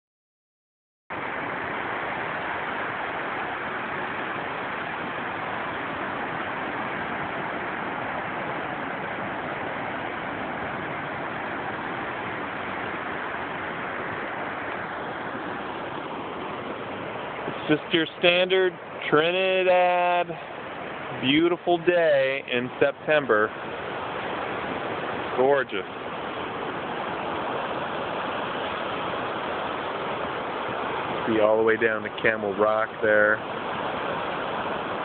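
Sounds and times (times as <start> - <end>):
ocean surf breaking over rocks: 1.2 - 35.0.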